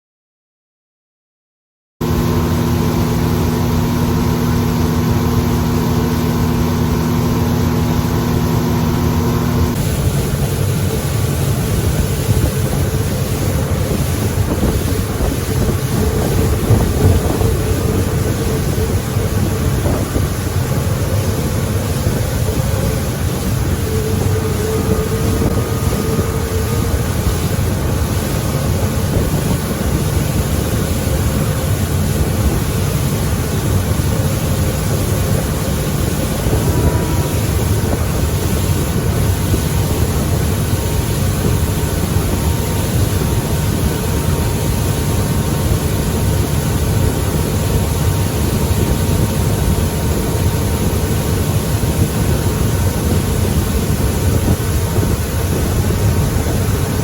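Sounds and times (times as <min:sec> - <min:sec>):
outboard motor droning: 0:02.0 - 0:57.0
water rushing: 0:02.0 - 0:57.0.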